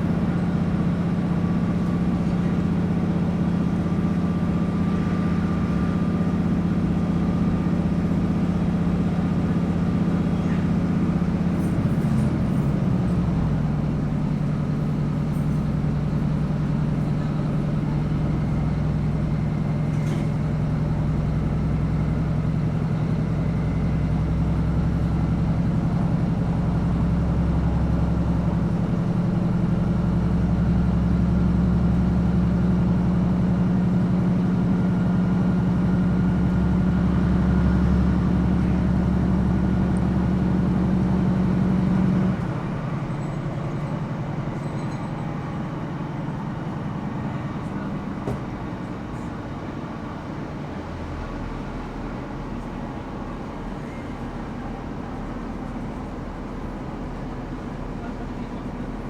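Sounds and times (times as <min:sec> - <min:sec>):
diesel railcar engine running: 0:00.0 - 0:59.0
train rumbling running noise: 0:00.0 - 0:59.0.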